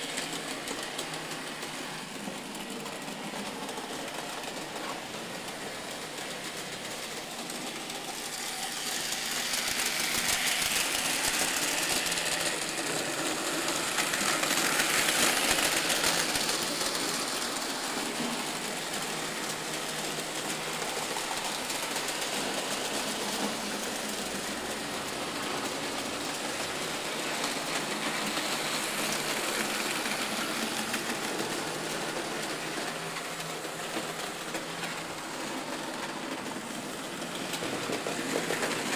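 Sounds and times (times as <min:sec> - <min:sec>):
model train motors whirring: 0:00.0 - 0:38.9.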